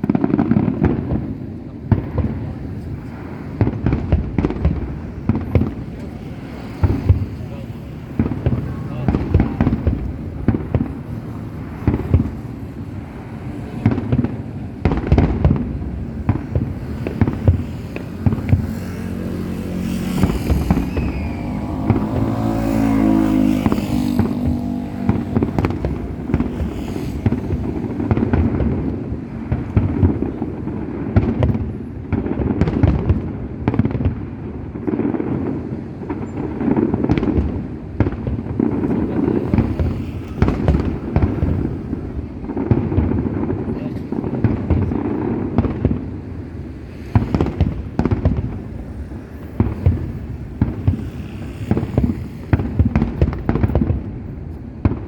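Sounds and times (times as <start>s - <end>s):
fireworks bangs and crackles: 0.0s - 55.0s
drawn-out pitched firework whistle: 2.2s - 31.2s, 34.8s - 43.6s, 44.9s - 55.0s.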